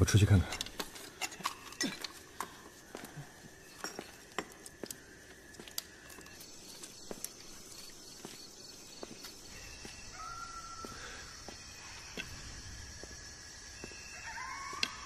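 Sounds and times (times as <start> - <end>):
faint outdoor night ambience: 0.0 - 15.0
footsteps on twigs and leaves: 2.0 - 15.0.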